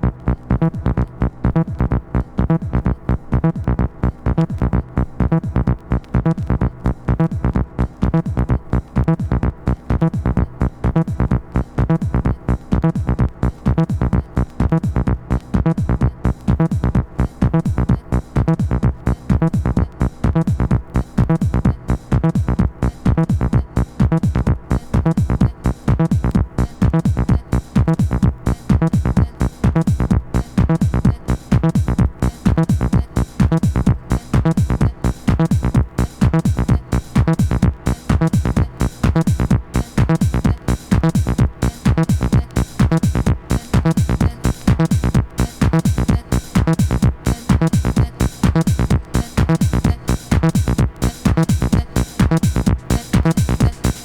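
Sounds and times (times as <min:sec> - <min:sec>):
deep house music with heavy bass: 0:00.0 - 0:54.0.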